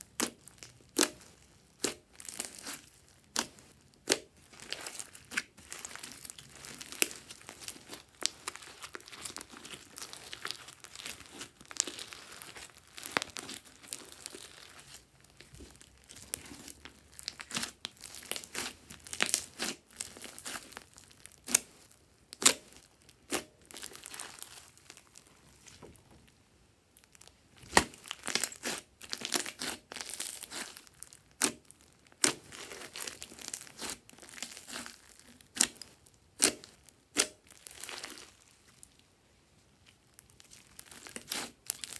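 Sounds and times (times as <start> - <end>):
slime squishing: 0.0 - 26.3, 27.0 - 39.0, 39.7 - 41.9.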